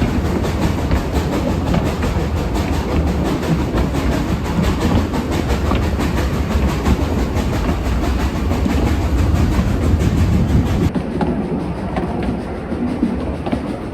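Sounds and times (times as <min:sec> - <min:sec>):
rail clatter: 0:00.0 - 0:13.9
steam train rumbling: 0:00.0 - 0:13.9.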